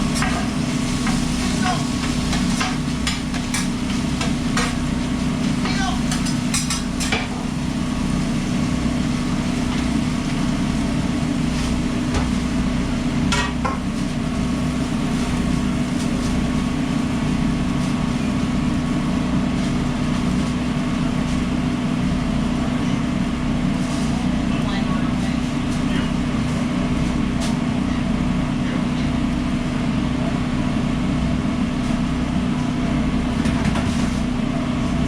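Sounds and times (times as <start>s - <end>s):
kitchen machinery hum: 0.0s - 35.0s.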